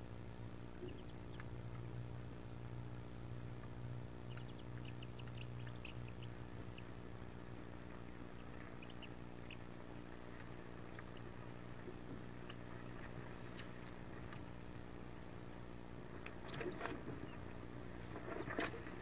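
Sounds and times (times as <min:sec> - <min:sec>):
steady low hum: 0:00.0 - 0:19.0
ducklings peeping: 0:00.6 - 0:15.5, 0:16.1 - 0:19.0.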